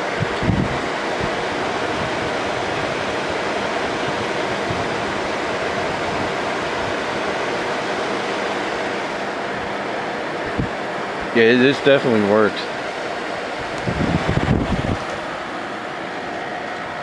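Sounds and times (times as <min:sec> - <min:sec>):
air conditioner fan rushing: 0:00.0 - 0:17.0.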